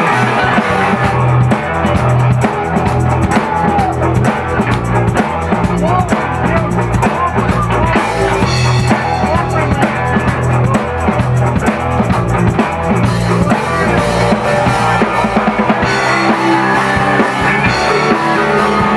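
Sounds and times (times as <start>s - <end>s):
drum kit beat: 0.0s - 18.9s
rock band playing live: 0.0s - 18.9s.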